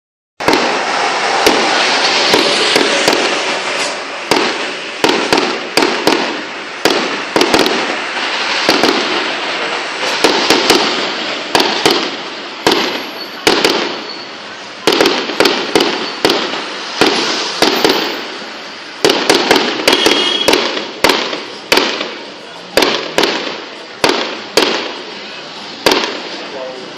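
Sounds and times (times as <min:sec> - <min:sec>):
fireworks bangs: 0:00.4 - 0:26.9
fireworks crackling: 0:00.4 - 0:26.9.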